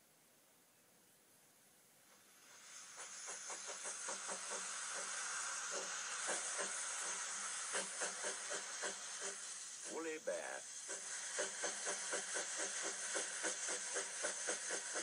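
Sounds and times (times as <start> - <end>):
steam hissing: 2.0 - 15.0
steam locomotive puffs: 2.0 - 15.0.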